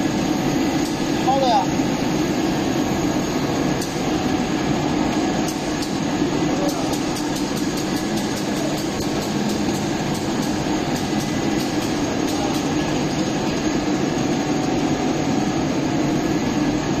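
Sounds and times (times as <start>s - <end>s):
machine hum and fan rush: 0.0s - 17.0s.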